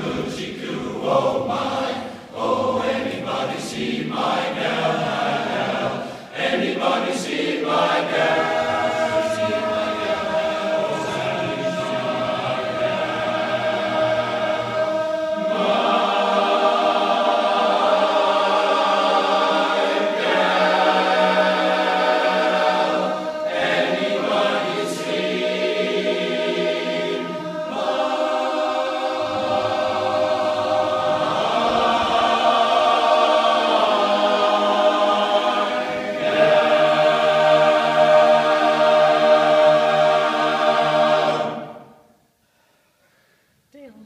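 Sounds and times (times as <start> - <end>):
men's choir singing: 0.0 - 42.1.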